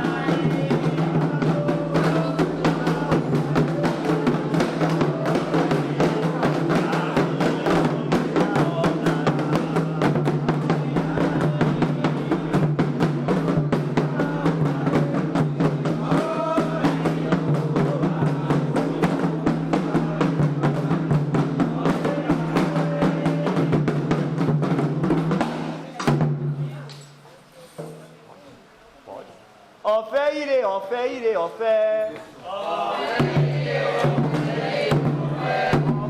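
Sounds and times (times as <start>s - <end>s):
hand drums playing fast rhythm: 0.0s - 26.7s, 33.2s - 36.0s.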